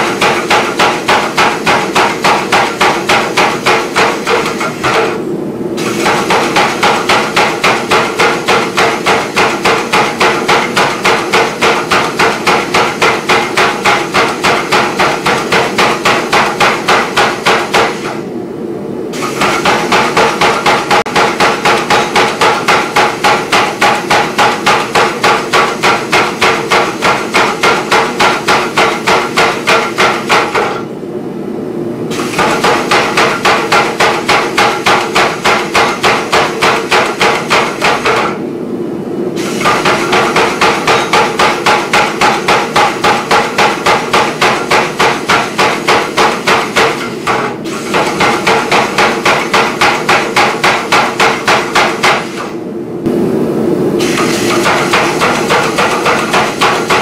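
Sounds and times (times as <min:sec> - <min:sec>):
power hammer striking steel: 0:00.0 - 0:18.2, 0:19.1 - 0:30.9, 0:32.1 - 0:38.4, 0:39.4 - 0:52.6, 0:54.0 - 0:57.0.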